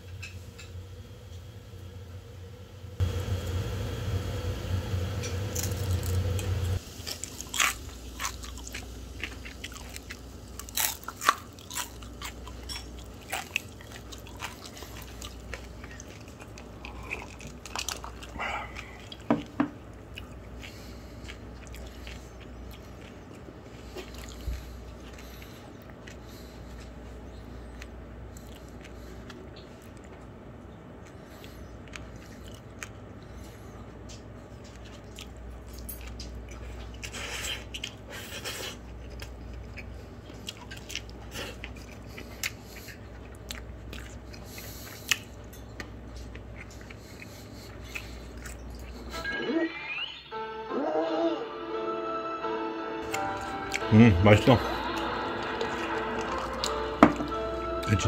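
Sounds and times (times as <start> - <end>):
steady hum: 0.0 - 49.6, 52.4 - 58.0.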